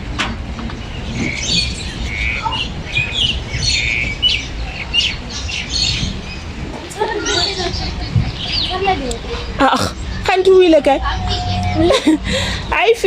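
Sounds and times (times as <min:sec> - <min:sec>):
birds squawking and chirping: 0:00.1 - 0:13.0.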